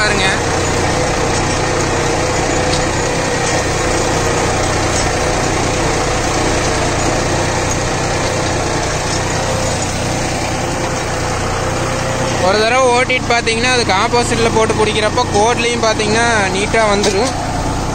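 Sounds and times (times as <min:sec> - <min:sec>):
tractor engine running: 0:00.0 - 0:17.9.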